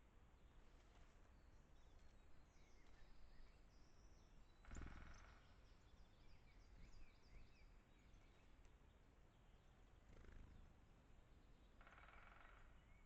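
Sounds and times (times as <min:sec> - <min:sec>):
distant songbirds chirping: 0:00.3 - 0:13.0.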